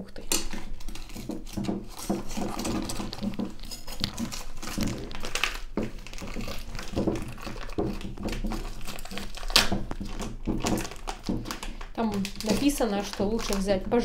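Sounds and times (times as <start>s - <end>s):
packaging crinkling: 0.3s - 14.0s.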